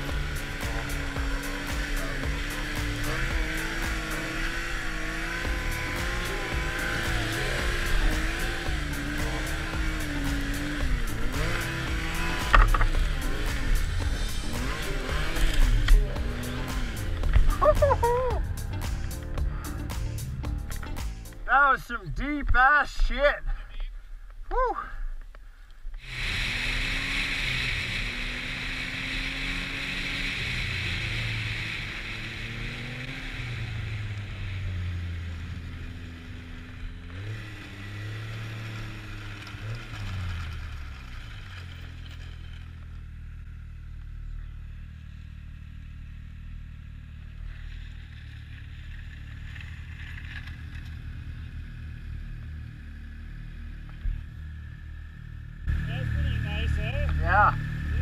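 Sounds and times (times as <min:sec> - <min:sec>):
snowmobile engine: 0:00.0 - 0:23.6, 0:26.0 - 0:58.0.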